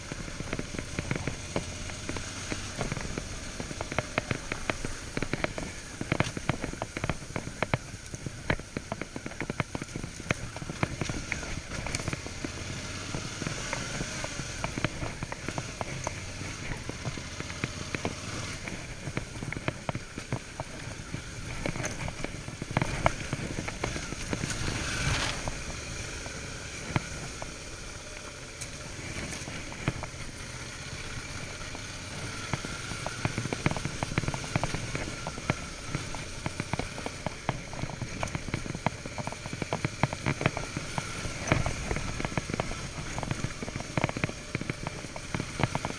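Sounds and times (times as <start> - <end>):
gravel crackling under tyres: 0.0 - 45.9
motorcycle engine running: 0.0 - 45.9.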